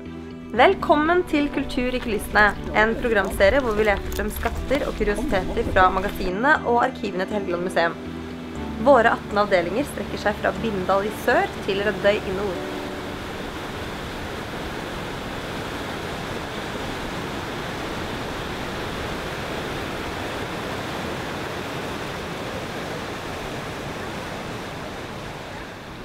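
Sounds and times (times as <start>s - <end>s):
river water rushing: 0.9s - 6.4s, 8.0s - 26.0s.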